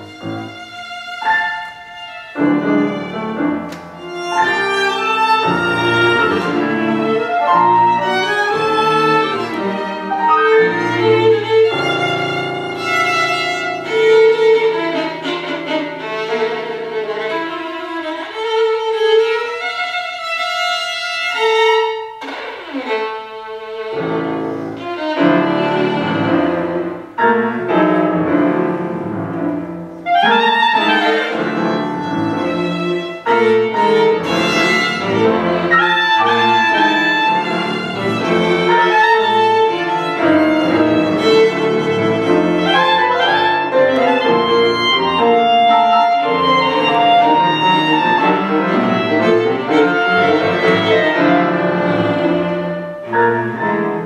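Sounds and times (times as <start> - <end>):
chamber quartet playing tango piece: 0.0 - 54.0.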